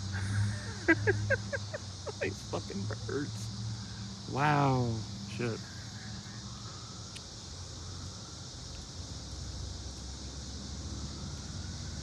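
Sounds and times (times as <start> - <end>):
high-pitched hiss: 0.0 - 12.0.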